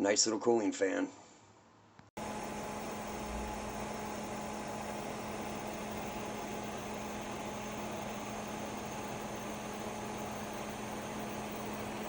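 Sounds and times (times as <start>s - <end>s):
fan blowing air: 2.2s - 12.0s
fan low hum: 2.2s - 12.0s.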